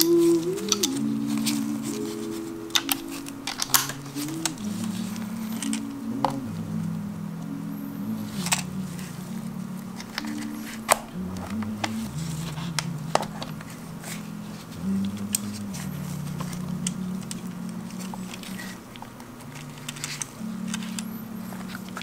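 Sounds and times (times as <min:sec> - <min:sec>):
slow background music: 0:00.0 - 0:22.0.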